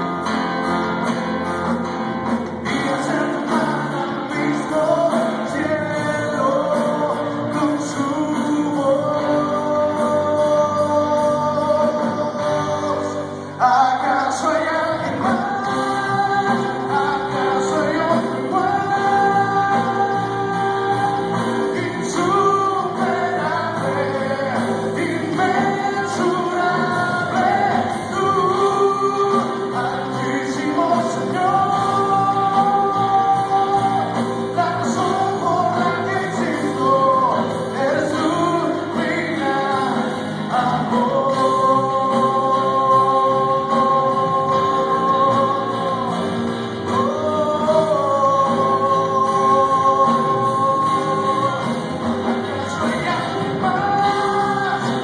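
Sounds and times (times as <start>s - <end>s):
acoustic guitar and band: 0.0s - 55.0s
crowd singing along: 0.0s - 55.0s
man singing lead vocal: 0.0s - 55.0s.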